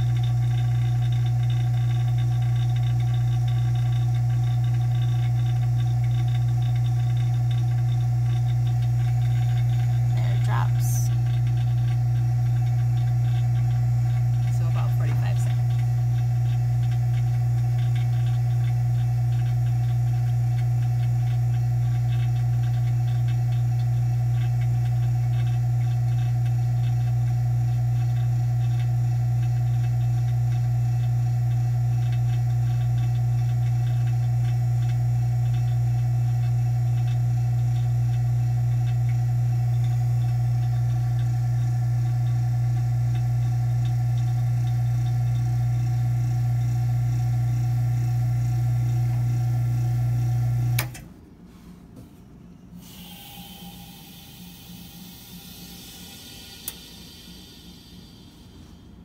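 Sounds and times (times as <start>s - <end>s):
vacuum pump humming: 0.0s - 59.0s.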